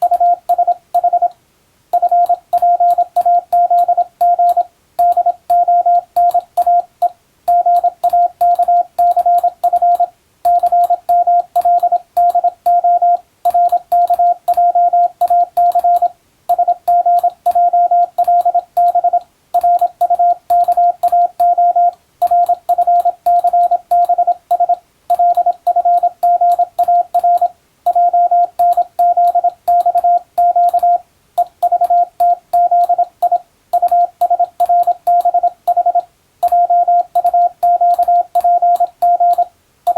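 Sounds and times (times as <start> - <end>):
morse code tone: 0.0 - 1.3, 2.0 - 6.9, 7.5 - 39.9.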